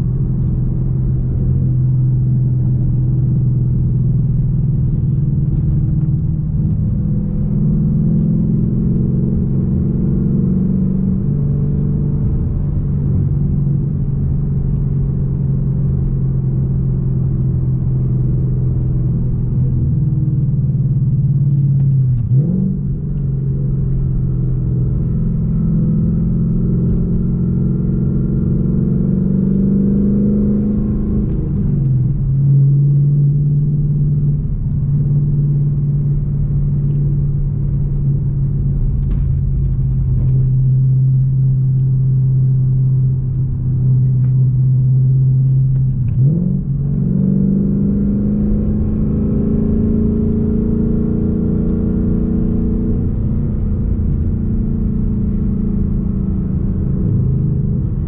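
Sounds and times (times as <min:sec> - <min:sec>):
car engine drone: 0:00.0 - 0:58.0
road rumble: 0:00.0 - 0:58.0.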